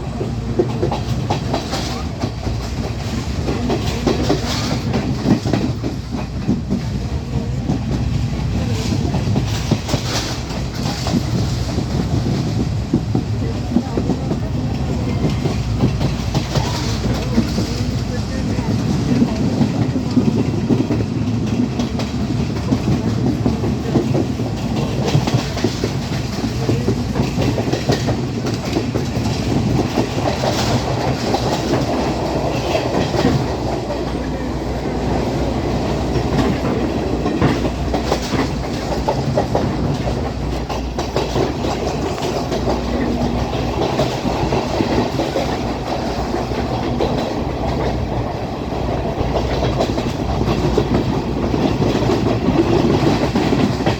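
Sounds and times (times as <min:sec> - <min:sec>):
train rumbling along track: 0:00.0 - 0:53.9
wheels clicking over rail joints: 0:00.2 - 0:53.9.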